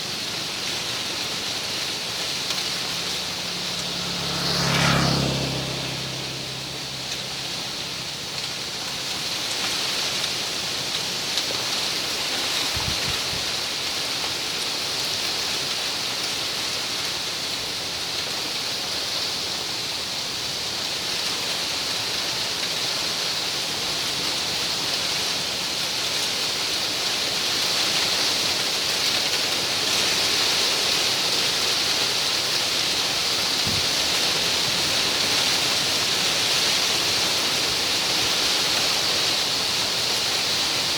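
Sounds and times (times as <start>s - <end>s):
wind rustling palm leaves: 0.0s - 40.9s.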